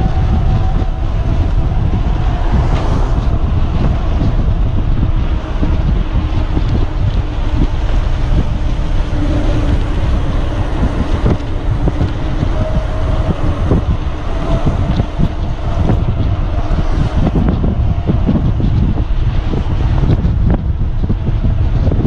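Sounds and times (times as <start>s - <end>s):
bike clicking and rattling: 0.0s - 22.0s
wind buffeting microphone: 0.0s - 22.0s.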